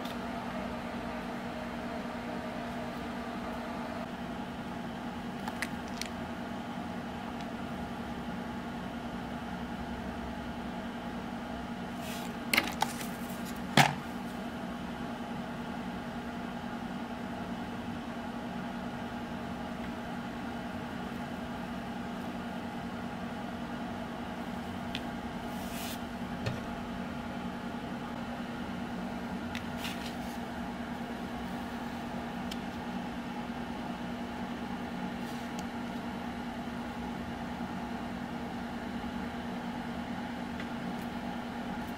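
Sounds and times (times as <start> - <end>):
fan humming: 0.0 - 41.9.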